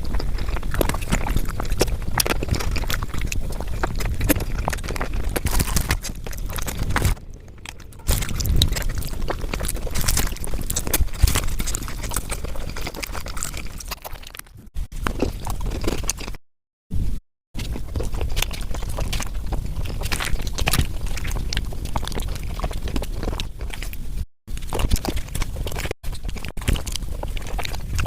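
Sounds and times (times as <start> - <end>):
chewing and crunching food: 0.0 - 16.4, 17.1 - 28.0.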